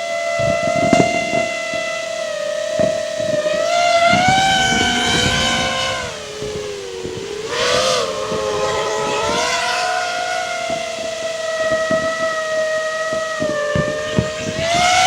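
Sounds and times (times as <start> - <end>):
quadcopter propellers whining: 0.0 - 15.0.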